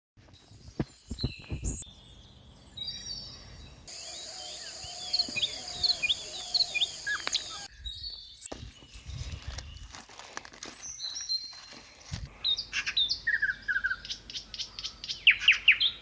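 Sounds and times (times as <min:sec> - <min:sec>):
birds chirping: 0:00.3 - 0:16.0.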